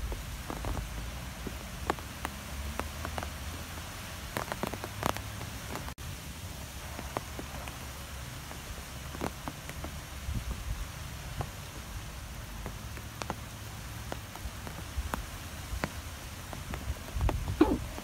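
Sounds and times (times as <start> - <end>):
raindrops ticking: 0.0 - 18.0
steady rain hiss: 0.0 - 18.0.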